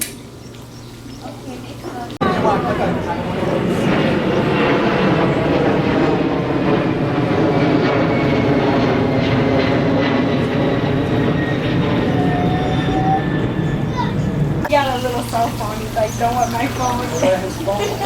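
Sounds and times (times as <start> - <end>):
loud engine drone: 0.0 - 18.0.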